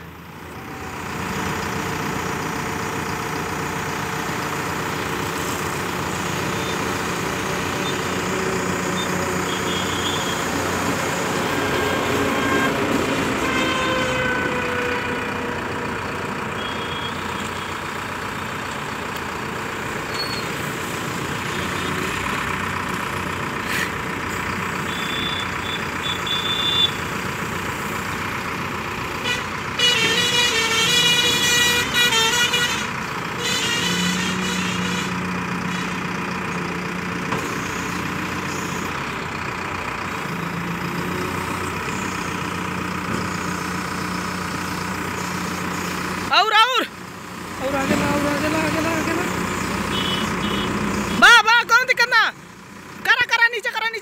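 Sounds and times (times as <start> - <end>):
backhoe engine running: 0.0 - 54.0.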